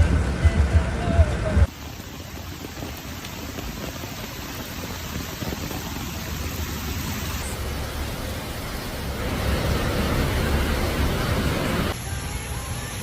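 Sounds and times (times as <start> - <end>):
heavy rain rushing: 1.6 - 13.0.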